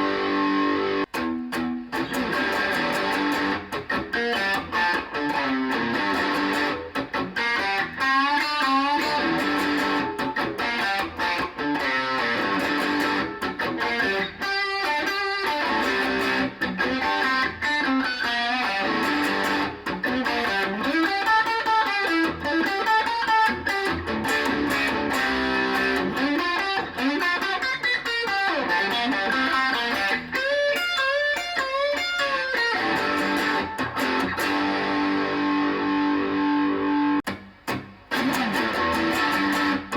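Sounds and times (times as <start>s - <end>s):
electric guitar lead lines: 0.0s - 39.9s.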